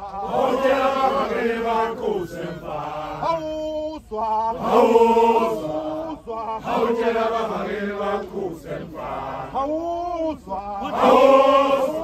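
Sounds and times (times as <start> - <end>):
men chanting in unison: 0.0 - 12.0.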